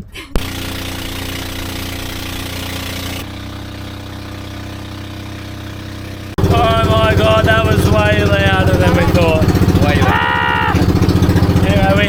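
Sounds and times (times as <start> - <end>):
boat engine running: 0.4 - 12.0.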